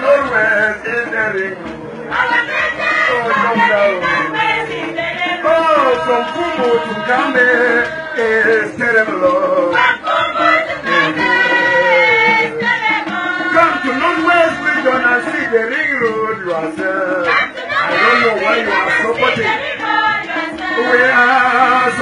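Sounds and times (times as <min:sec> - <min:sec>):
man leading a song: 0:00.0 - 0:01.8, 0:03.0 - 0:10.0, 0:10.8 - 0:12.8, 0:13.4 - 0:22.0
women's chorus singing: 0:02.0 - 0:22.0.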